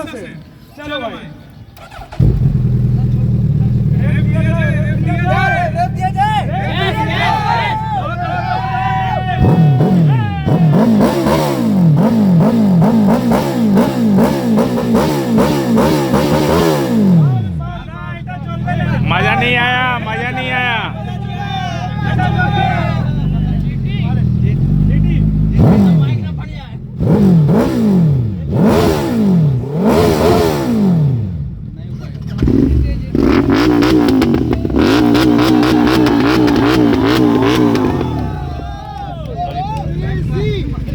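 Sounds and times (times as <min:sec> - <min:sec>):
engine crackles: 0:01.4 - 0:40.9
motorcycle engine revving: 0:01.7 - 0:17.9, 0:22.2 - 0:39.2.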